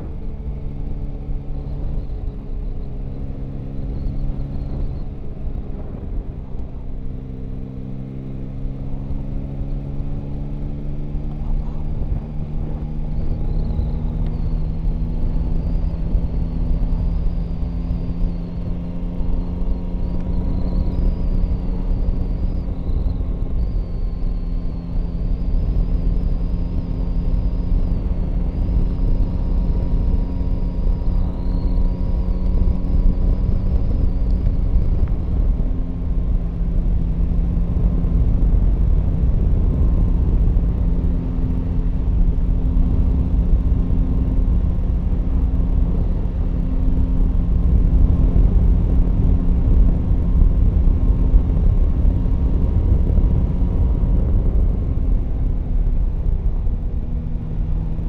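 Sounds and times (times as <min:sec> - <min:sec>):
motorcycle engine cruising: 0:00.0 - 0:58.0
road rumble: 0:00.0 - 0:58.0
wind noise: 0:00.0 - 0:58.0.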